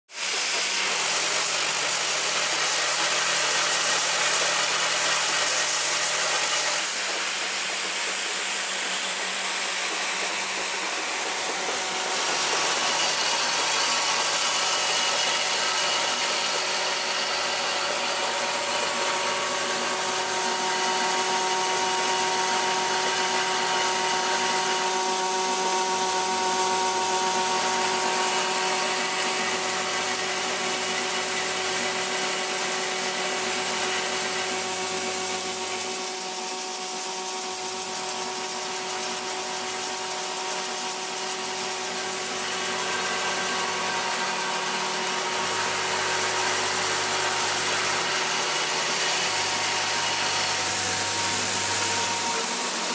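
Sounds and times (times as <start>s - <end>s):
assembly machine mechanism running: 0.2s - 52.9s
vibratory bowl feeder humming: 0.4s - 52.9s.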